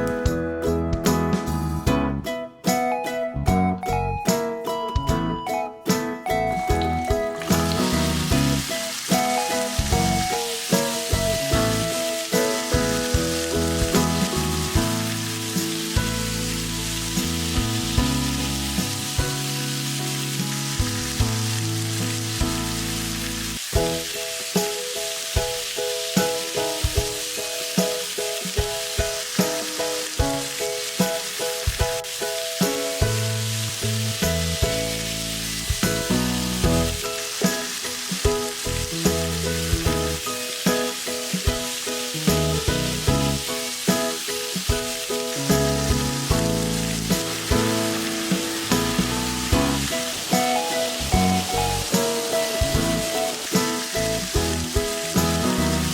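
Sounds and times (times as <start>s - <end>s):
background music with beat: 0.0s - 23.0s, 23.6s - 55.9s
food sizzling in a pan: 6.5s - 55.9s.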